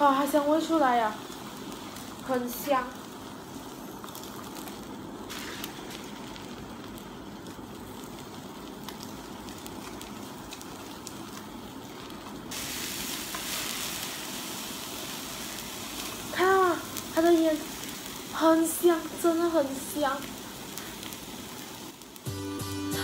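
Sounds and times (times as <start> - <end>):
meat sizzling and popping: 0.0 - 23.0.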